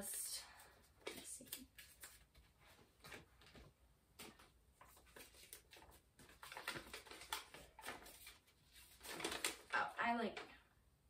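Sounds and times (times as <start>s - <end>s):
papers rustling: 1.0s - 9.9s.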